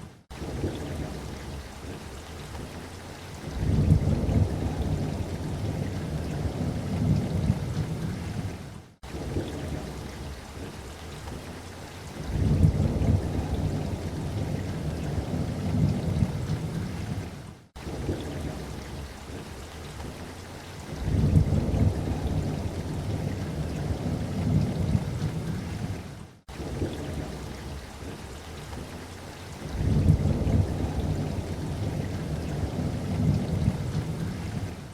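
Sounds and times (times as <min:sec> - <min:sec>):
steady rain: 0:00.0 - 0:34.9
thunder rumbling: 0:00.3 - 0:02.1, 0:03.5 - 0:10.8, 0:12.2 - 0:19.5, 0:20.9 - 0:28.2, 0:29.6 - 0:34.9.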